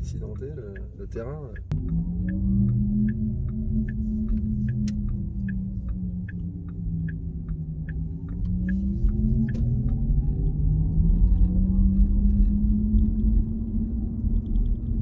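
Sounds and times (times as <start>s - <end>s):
road rumble: 0.0s - 15.0s
turn signal ticking: 0.0s - 15.0s.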